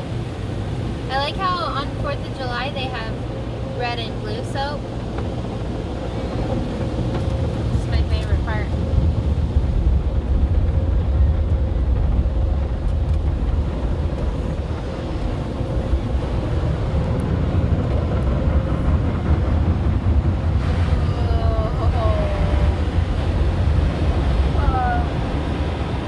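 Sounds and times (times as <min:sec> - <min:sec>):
car wash low rumble: 0:00.0 - 0:26.0.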